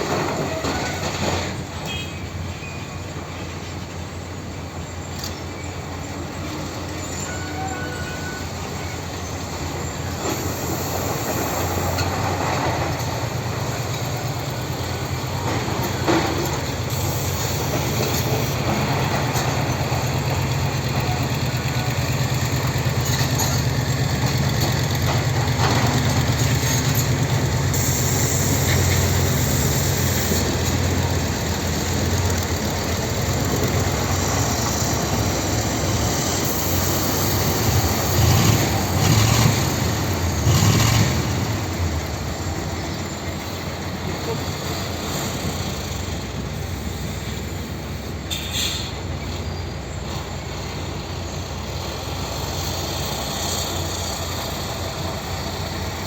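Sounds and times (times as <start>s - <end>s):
tractor engine humming: 0.0s - 56.0s.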